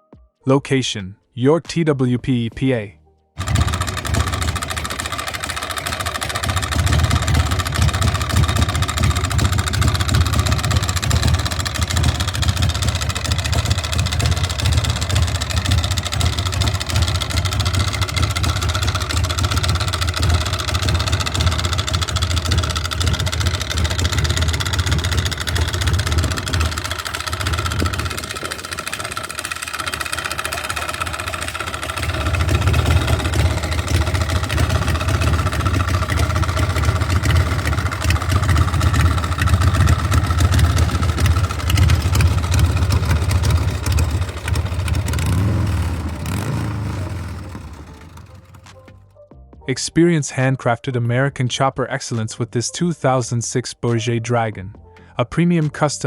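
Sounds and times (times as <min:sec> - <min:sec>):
motorcycle engine idling: 0:03.4 - 0:49.1.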